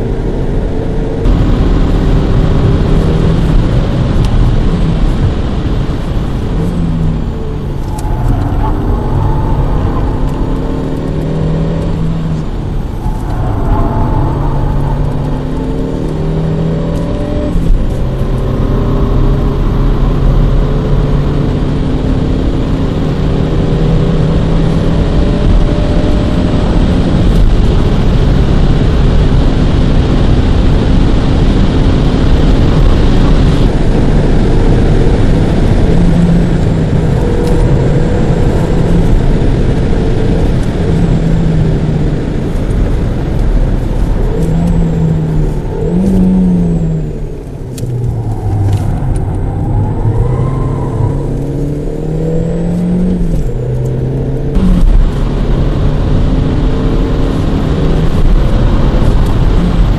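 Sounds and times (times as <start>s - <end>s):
car engine accelerating: 0.0s - 59.9s
road and tyre rumble: 0.0s - 59.9s.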